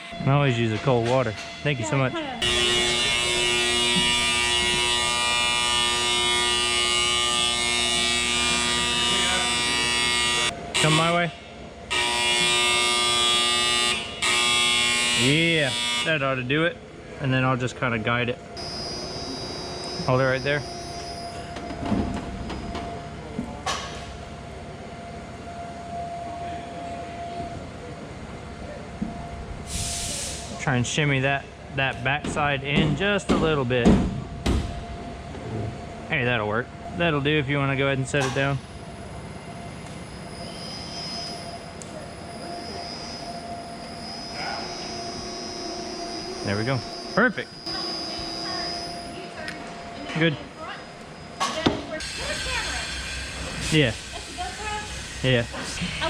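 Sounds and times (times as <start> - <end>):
lifting equipment whining: 0.0 - 17.2, 18.3 - 29.8, 32.3 - 56.0
machinery buzzing hum: 0.0 - 56.0.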